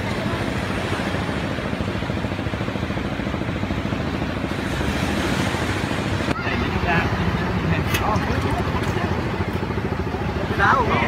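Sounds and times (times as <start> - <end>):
engine chugging: 0.0 - 11.0.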